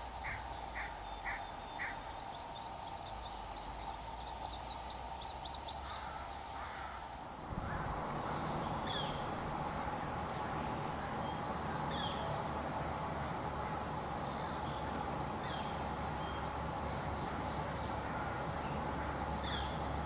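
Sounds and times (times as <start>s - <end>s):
low background rumble and hum: 0.0s - 20.0s.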